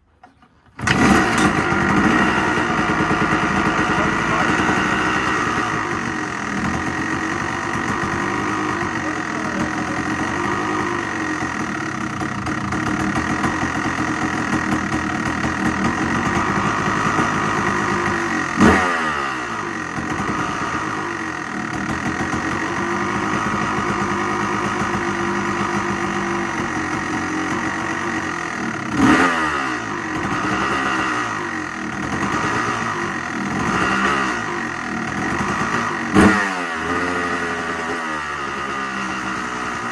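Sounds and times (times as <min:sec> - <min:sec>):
motorcycle engine idling and revving: 0:00.2 - 0:39.9.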